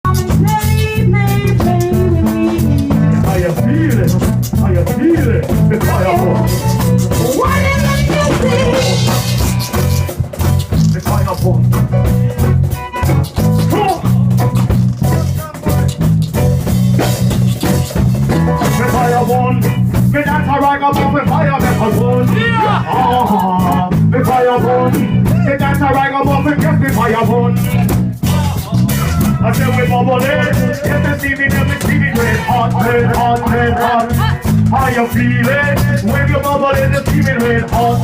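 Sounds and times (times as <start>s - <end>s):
heavy bass line: 0.0s - 38.0s
live band playing reggae: 0.0s - 38.0s.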